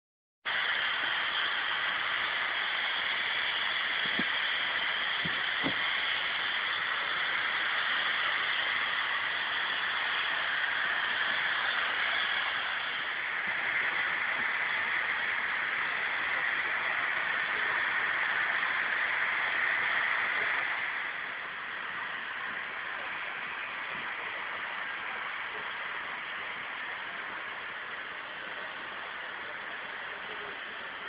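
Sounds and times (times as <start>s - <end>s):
steady hiss: 0.4s - 31.0s.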